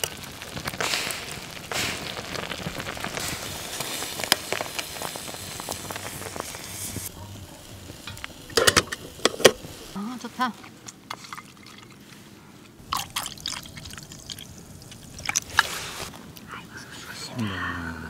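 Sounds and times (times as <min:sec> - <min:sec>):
food sizzling in pot: 0:00.0 - 0:12.1, 0:12.8 - 0:16.2
wood fire crackling: 0:00.0 - 0:17.9.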